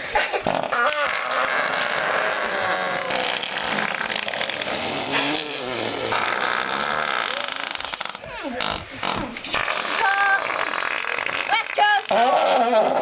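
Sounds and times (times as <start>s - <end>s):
children making mouth sound effects: 0.0s - 13.0s.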